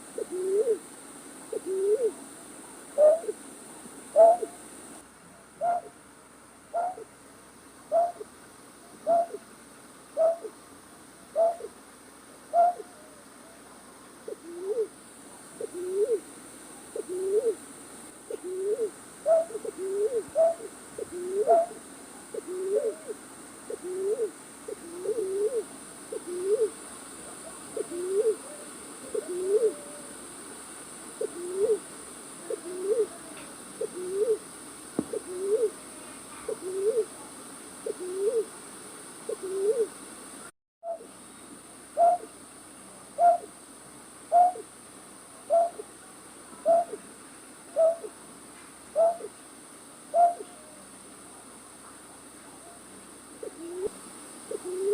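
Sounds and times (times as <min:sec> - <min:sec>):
recorded night bird call: 0:00.0 - 0:00.9, 0:01.5 - 0:06.0, 0:06.7 - 0:07.2, 0:07.9 - 0:11.8, 0:12.4 - 0:15.0, 0:15.6 - 0:17.6, 0:18.3 - 0:30.3, 0:31.1 - 0:38.6, 0:39.2 - 0:43.6, 0:44.3 - 0:44.8, 0:45.4 - 0:47.1, 0:47.7 - 0:48.2, 0:48.9 - 0:49.4, 0:50.1 - 0:51.0, 0:51.9 - 0:54.9.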